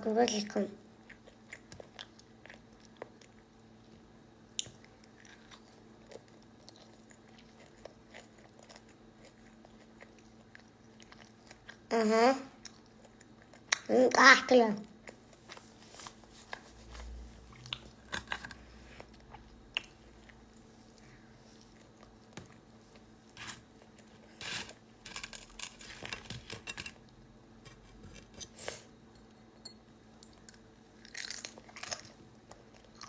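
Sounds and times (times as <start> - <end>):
chewing and crunching food: 0.9 - 11.9, 12.5 - 13.9, 14.8 - 29.0, 30.2 - 33.0.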